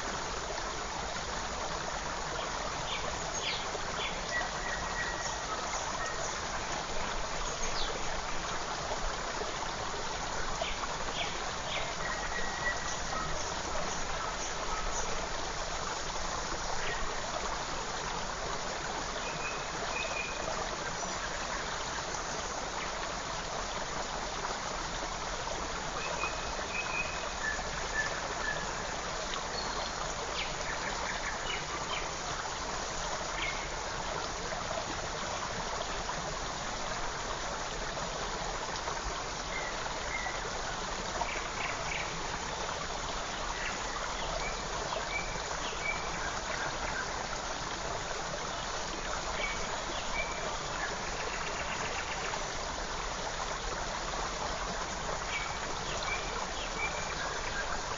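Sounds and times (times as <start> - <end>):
forest stream running: 0.0 - 57.9.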